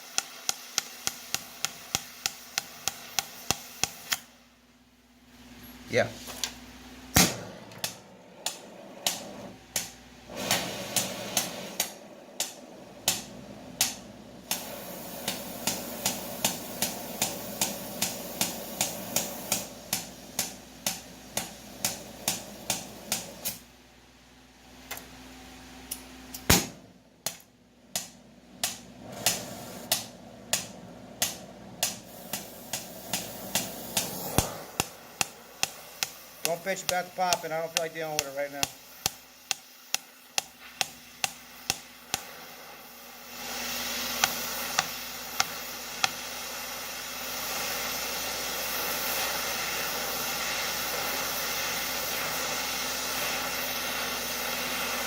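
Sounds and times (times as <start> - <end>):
torch flame popping: 0.0 - 4.4, 6.3 - 23.7, 26.3 - 55.0
torch hissing: 0.0 - 4.4, 7.1 - 23.7, 28.0 - 55.0.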